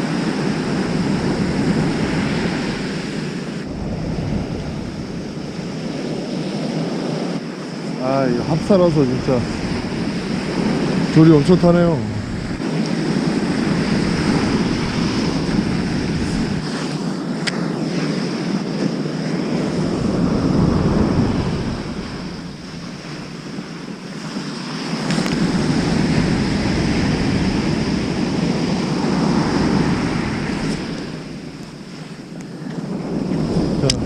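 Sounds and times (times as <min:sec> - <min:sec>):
surf breaking on beach: 0:00.0 - 0:34.0.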